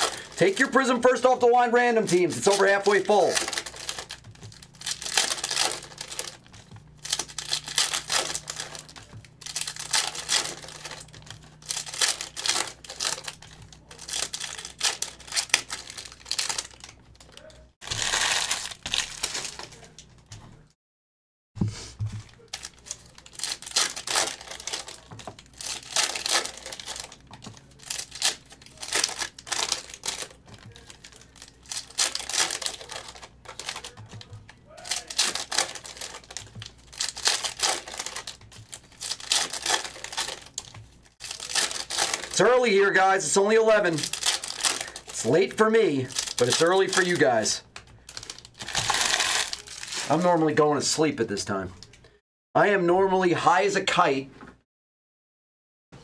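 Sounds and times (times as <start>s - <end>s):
foil wrappers crinkling and tearing: 0.0s - 20.7s, 22.0s - 52.2s.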